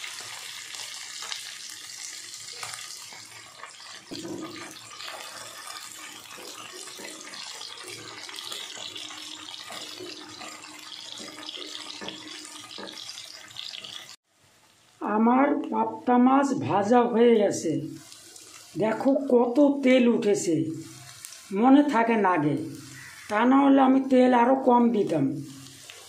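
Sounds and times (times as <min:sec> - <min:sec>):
fish frying sizzle: 0:00.0 - 0:26.0.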